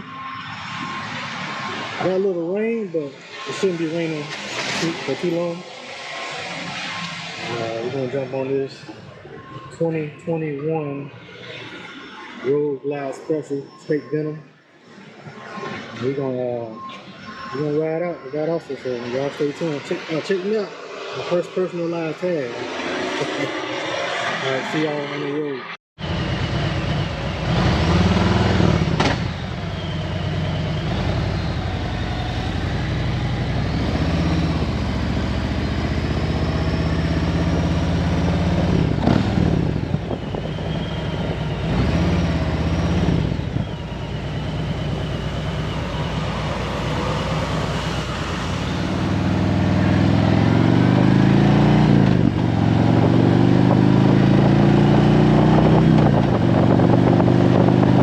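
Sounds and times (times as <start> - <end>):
wind and road noise: 0.0 - 13.1, 14.8 - 58.0.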